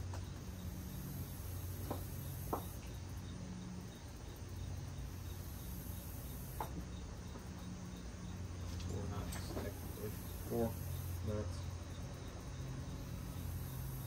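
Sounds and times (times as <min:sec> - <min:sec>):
insect chirping: 0:00.0 - 0:14.0
low steady hum: 0:00.0 - 0:14.0.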